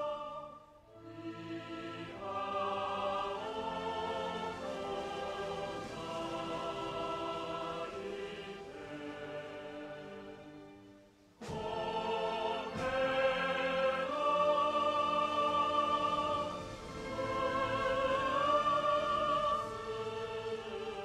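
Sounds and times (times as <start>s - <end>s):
choir and orchestra anthem: 0.0s - 21.0s.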